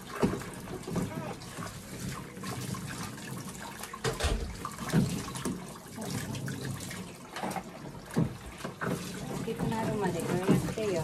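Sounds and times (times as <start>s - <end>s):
tap running into basin: 0.0s - 11.0s
water splashing: 0.0s - 11.0s.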